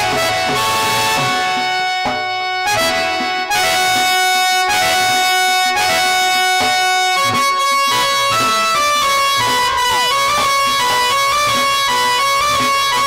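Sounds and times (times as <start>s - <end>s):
drum strokes: 0.0s - 12.8s
harmonium playing folk melody: 0.0s - 13.0s.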